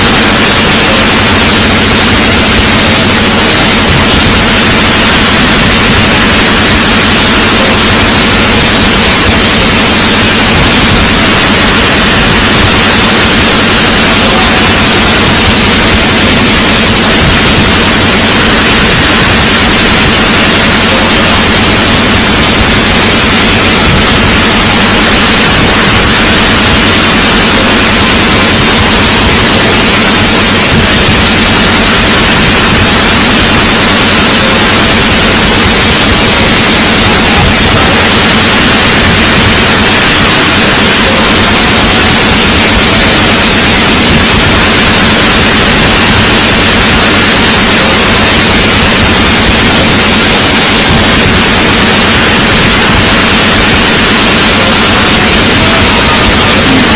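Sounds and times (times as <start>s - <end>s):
harsh distorted static noise: 0.0s - 56.9s.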